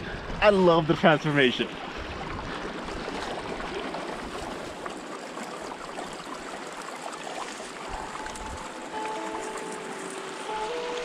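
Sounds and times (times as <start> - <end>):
river flowing: 0.0 - 11.0.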